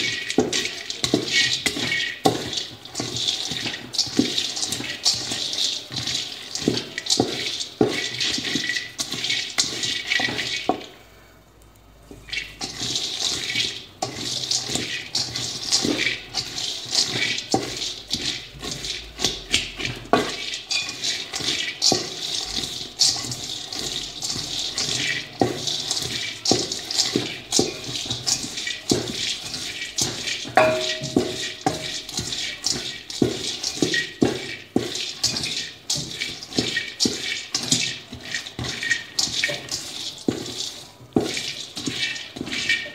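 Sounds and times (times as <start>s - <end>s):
nuts rattling in metal pan: 0.0s - 11.1s, 12.1s - 42.9s
wooden spatula stirring: 0.0s - 42.9s.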